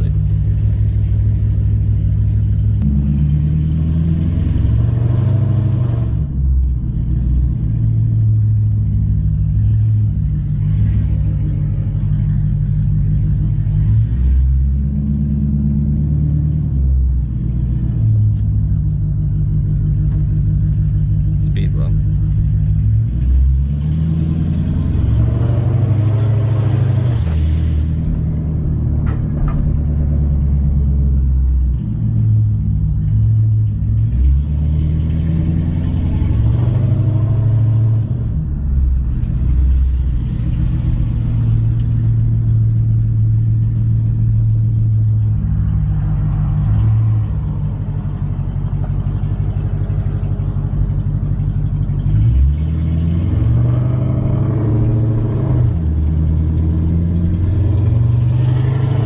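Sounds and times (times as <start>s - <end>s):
car engine revving while driving: 0.0s - 59.0s.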